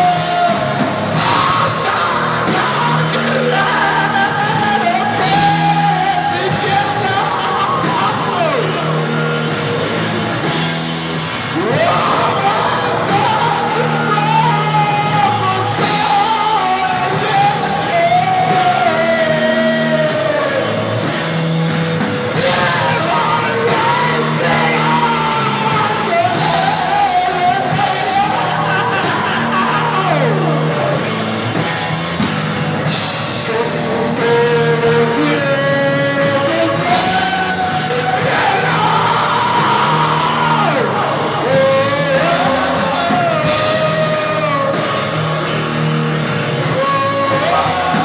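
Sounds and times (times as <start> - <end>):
person singing: 0.0 - 10.2, 11.1 - 21.2, 22.0 - 31.7, 32.8 - 48.0
distorted electric guitar: 0.0 - 48.0
drum kit with cymbals: 0.0 - 48.0
electric bass: 0.0 - 48.0.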